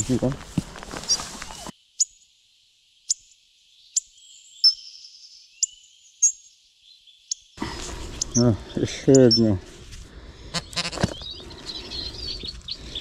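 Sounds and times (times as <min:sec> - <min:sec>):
birds chirping: 0:00.0 - 0:02.3, 0:02.9 - 0:13.0.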